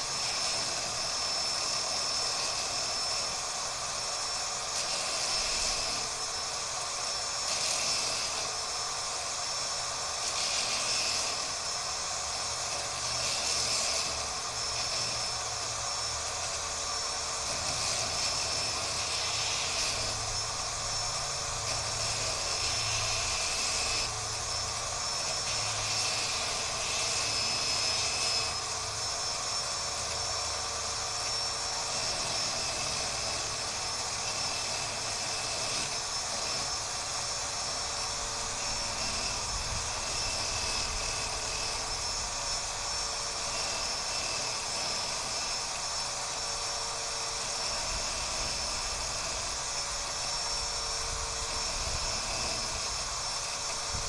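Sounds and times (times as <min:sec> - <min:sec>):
electric drill whining: 0:00.0 - 0:54.0
metal grinding against drill bit: 0:00.0 - 0:54.0.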